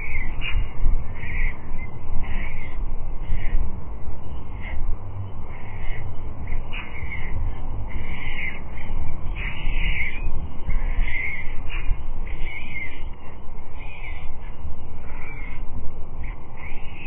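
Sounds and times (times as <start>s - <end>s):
stork chicks begging calls: 0.0s - 3.6s, 4.5s - 4.8s, 5.5s - 15.6s
steady low rumble: 0.0s - 17.0s.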